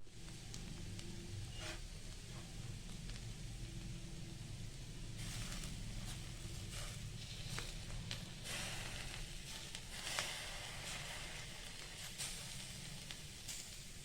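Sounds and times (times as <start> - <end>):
food frying in a pan: 0.0 - 14.0.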